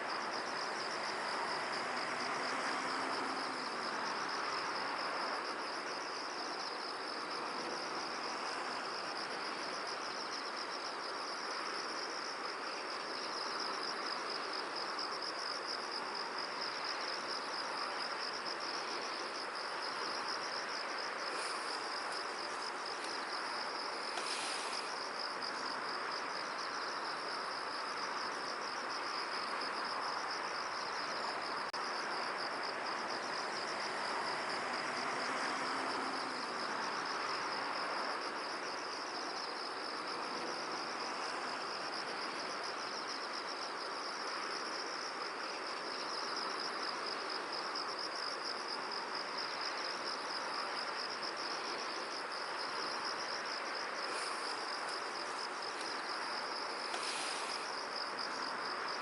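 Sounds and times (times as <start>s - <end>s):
insects trilling: 0.0s - 59.0s
wind hiss: 0.0s - 59.0s.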